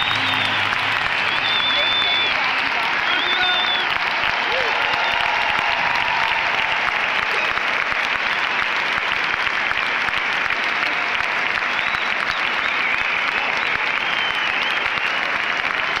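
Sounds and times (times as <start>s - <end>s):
large crowd applauding: 0.0s - 16.0s.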